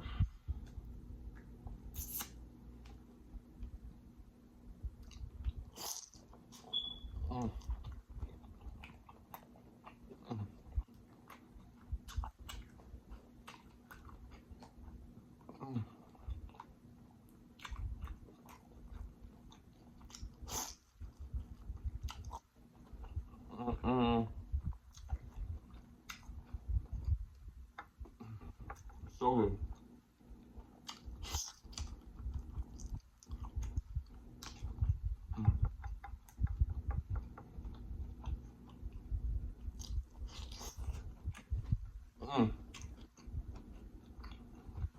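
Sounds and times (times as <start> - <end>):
person chewing food: 4.8 - 23.6, 24.4 - 44.9.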